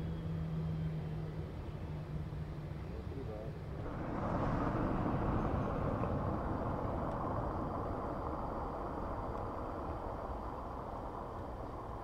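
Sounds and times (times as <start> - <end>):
distant jet engine rumble: 0.0 - 12.0.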